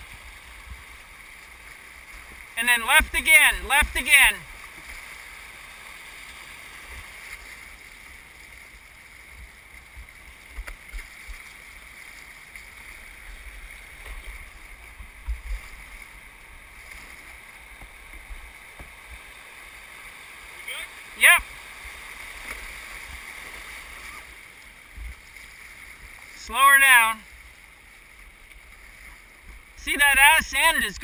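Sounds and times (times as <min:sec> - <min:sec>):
river current rushing: 0:00.0 - 0:31.0.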